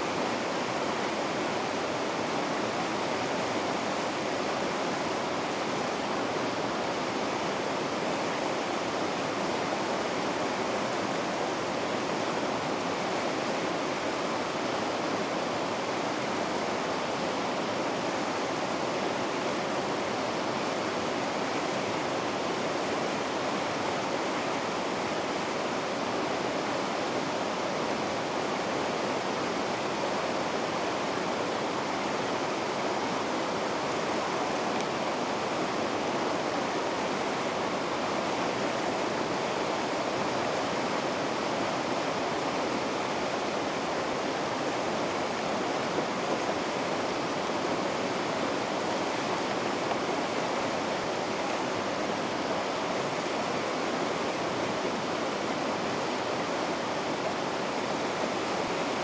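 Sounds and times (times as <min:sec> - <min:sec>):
white water rushing: 0:00.0 - 0:59.0.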